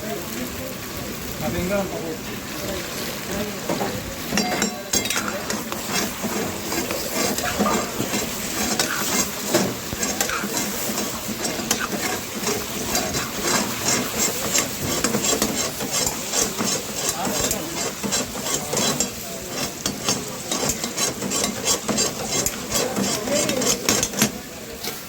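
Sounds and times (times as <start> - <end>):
chicken sizzling in pan: 0.0 - 25.0
metal ladle scraping pan: 3.6 - 25.0.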